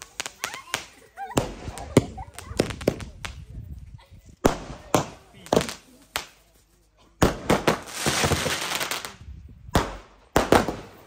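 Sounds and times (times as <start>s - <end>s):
firecrackers banging and crackling: 0.0s - 3.6s, 4.4s - 11.0s.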